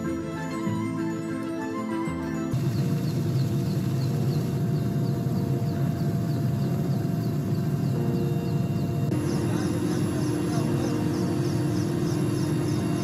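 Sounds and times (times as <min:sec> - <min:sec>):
faint rhythmic pattern: 0:00.0 - 0:13.0
helicopter engine and rotor drone: 0:00.0 - 0:13.0.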